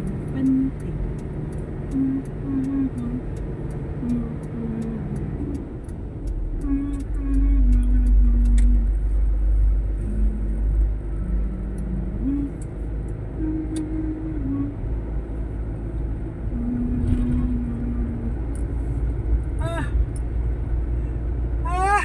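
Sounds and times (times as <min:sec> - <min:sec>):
car interior driving rumble: 0:00.0 - 0:22.0.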